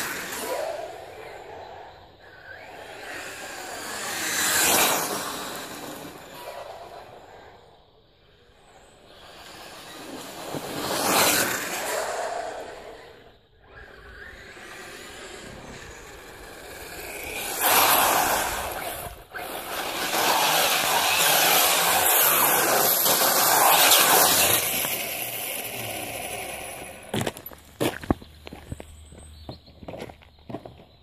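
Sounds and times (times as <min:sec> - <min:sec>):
grit thrown up by wheels: 0:00.0 - 0:01.5, 0:02.4 - 0:07.3, 0:09.1 - 0:29.0
electric rc car motor: 0:00.0 - 0:07.6, 0:08.5 - 0:27.4.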